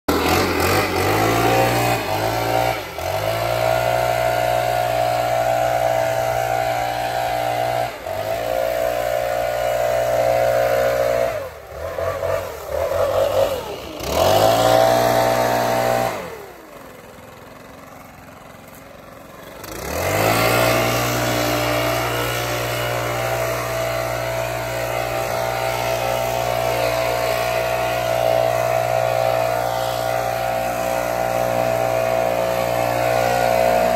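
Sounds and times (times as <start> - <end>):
leaf blower running: 0.1 - 33.9.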